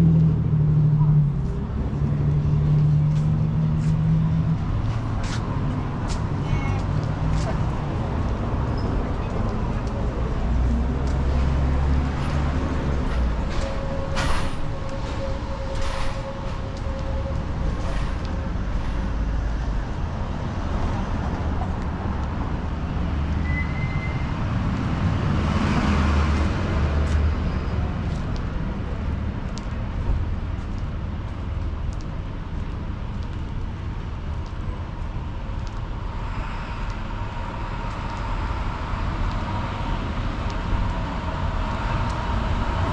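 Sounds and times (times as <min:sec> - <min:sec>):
vehicle engines passing: 0:00.0 - 0:42.9.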